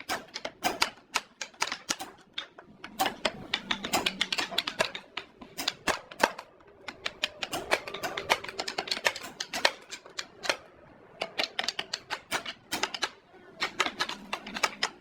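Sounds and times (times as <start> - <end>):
rapid sharp taps and clicks: 0.0 - 15.0.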